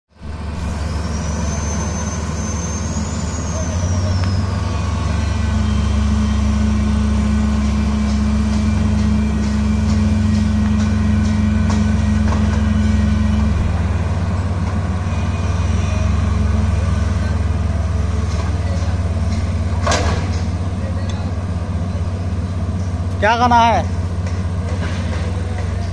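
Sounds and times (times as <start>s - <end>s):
diesel engine low drone: 0.1s - 25.9s.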